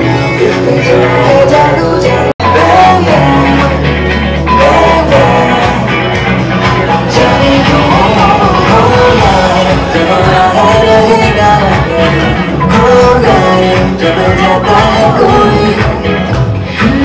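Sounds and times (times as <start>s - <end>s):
dance song with singing: 0.0s - 17.0s.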